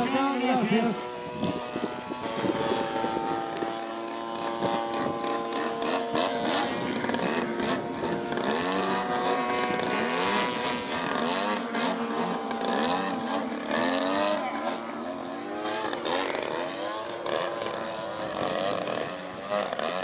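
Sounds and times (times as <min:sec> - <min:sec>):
model aircraft engine: 0:00.0 - 0:20.0.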